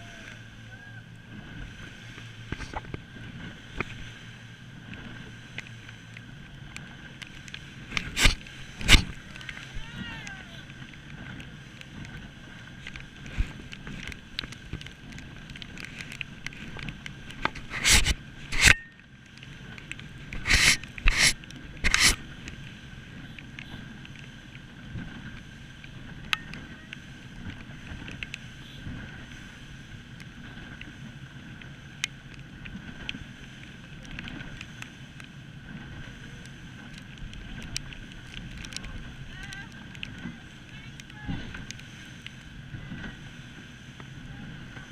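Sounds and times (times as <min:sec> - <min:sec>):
boat engine hum: 0:00.0 - 0:44.9
wind and water rushing: 0:00.0 - 0:44.9.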